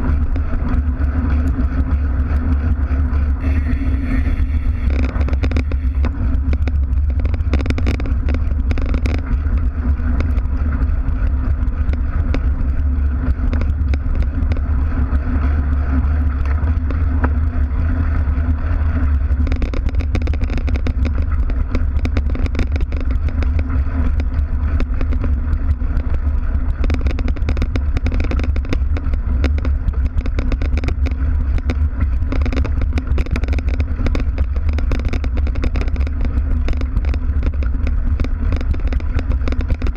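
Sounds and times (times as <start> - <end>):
bike tyre rumbling on gravel: 0.0 - 39.9
bike rattling clicks: 4.8 - 17.4, 19.0 - 39.9.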